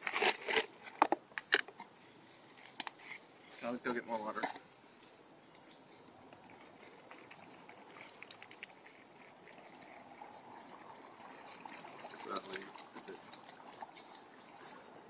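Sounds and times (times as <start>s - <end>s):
crackle: 0.0s - 15.0s
water trickling onto dry ice: 2.6s - 15.0s.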